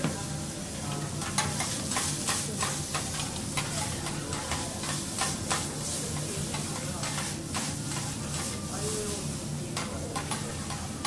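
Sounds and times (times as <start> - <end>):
food sizzling on a griddle: 0.0 - 11.0
metal spatulas scraping hot plate: 1.2 - 10.9.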